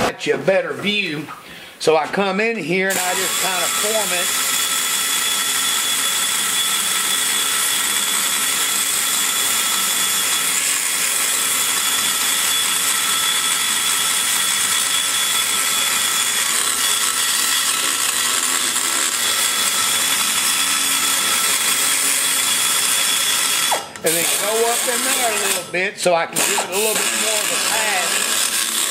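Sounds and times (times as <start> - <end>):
cutter grinding metal: 2.8 - 28.9
die grinder whining: 2.8 - 28.9.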